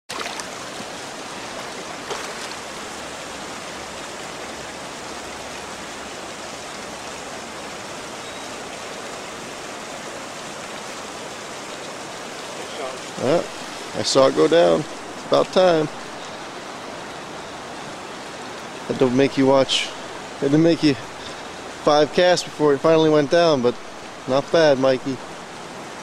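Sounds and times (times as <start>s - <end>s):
river current rushing: 0.1s - 26.0s.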